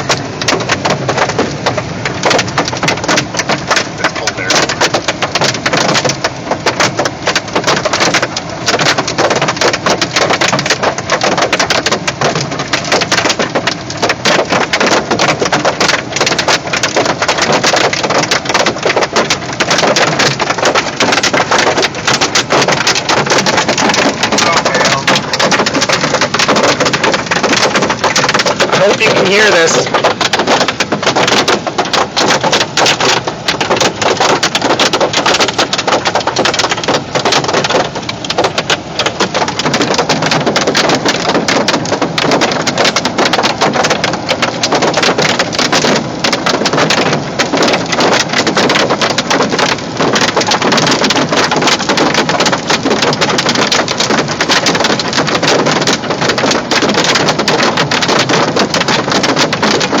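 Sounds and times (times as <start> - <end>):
hail clattering on car roof: 0.0 - 60.0.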